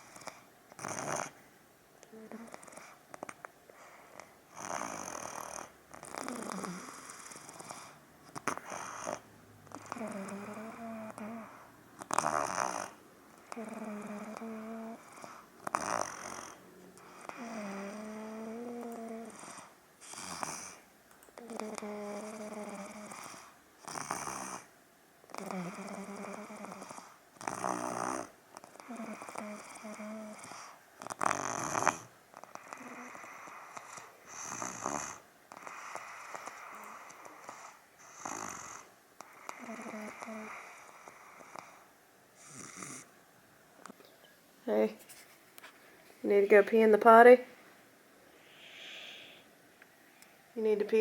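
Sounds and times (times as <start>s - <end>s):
toddler snoring with rattling rasp: 0.0s - 1.4s, 2.1s - 24.7s, 25.3s - 43.1s.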